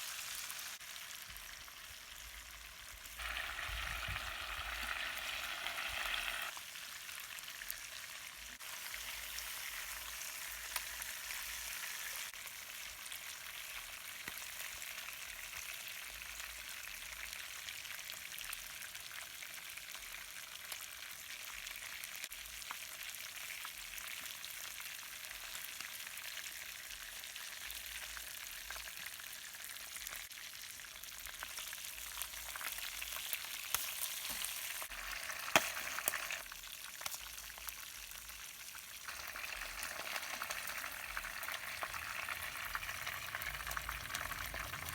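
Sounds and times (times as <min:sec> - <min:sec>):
fish frying in hot oil: 0:00.0 - 0:44.9.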